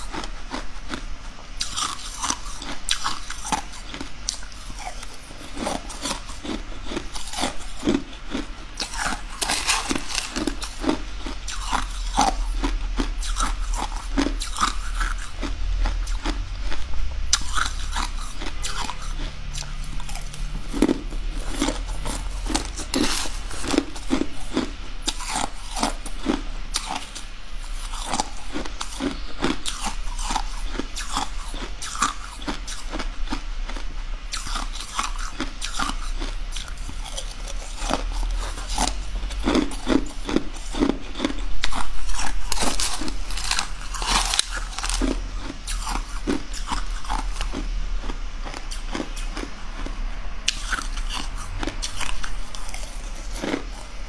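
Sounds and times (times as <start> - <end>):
crunching ice: 1.6 - 16.4, 17.3 - 27.1, 27.9 - 47.5, 50.5 - 53.8.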